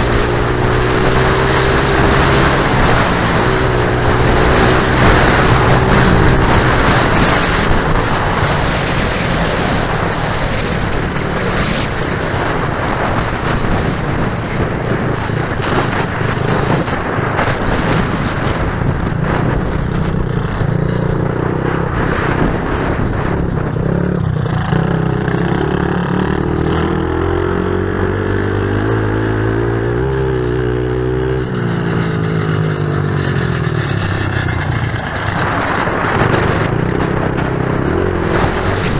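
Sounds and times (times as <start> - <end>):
constant noisy rush: 0.0 - 38.9
pit bike engines revving: 0.0 - 38.9.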